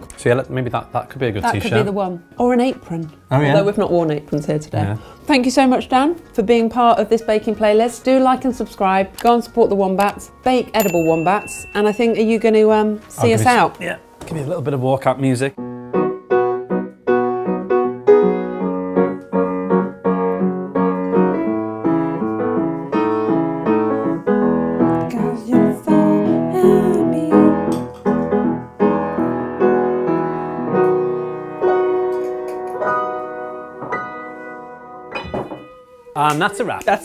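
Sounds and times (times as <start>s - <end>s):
upright piano playing: 0.0s - 37.0s.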